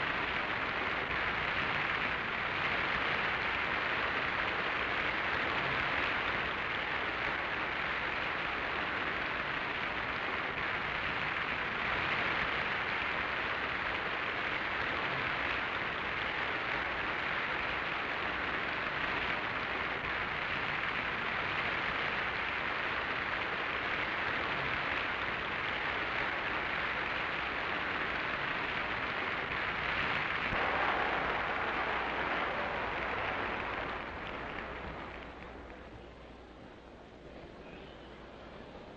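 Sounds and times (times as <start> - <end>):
audience applauding: 0.0 - 36.5.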